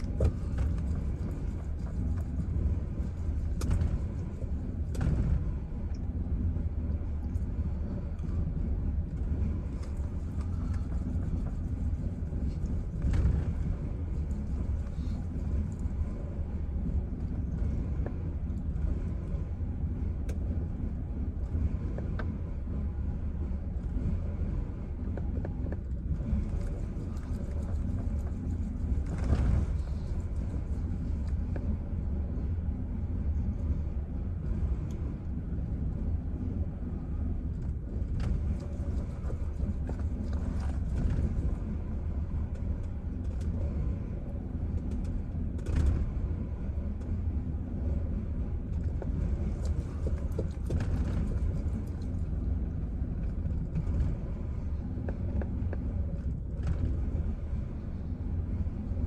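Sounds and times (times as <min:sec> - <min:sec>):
truck engine rough idling: 0:00.0 - 0:59.0.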